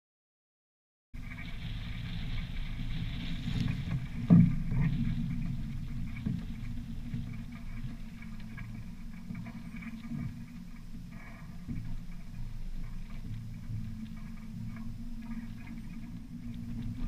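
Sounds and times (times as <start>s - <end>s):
low uneven rumble: 1.2s - 17.0s.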